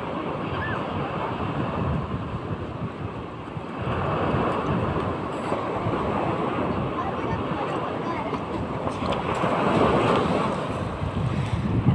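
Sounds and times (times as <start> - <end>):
sea waves breaking: 0.0 - 11.9
wind buffeting microphone: 0.0 - 11.9.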